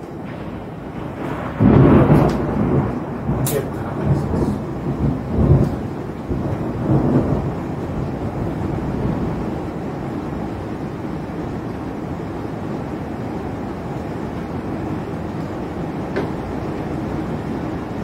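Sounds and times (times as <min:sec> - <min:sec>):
thunder rumbling: 0:00.0 - 0:18.0.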